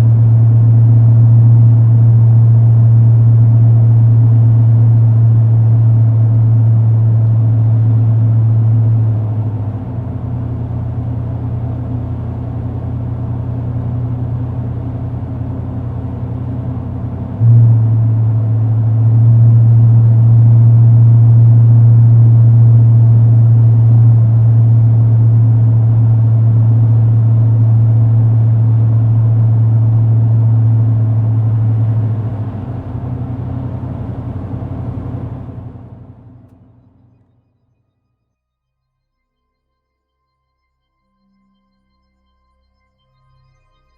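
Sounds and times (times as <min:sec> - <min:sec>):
car exhaust drone: 0:00.0 - 0:37.4.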